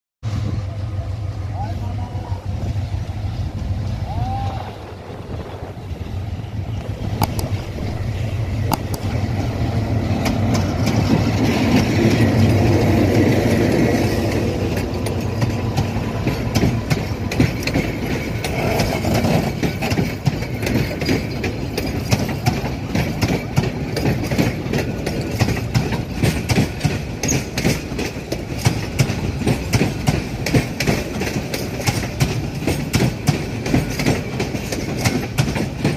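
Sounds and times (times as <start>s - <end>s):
train engine rumble: 0.2s - 35.9s
train wheels clattering over rail joints: 5.4s - 35.9s.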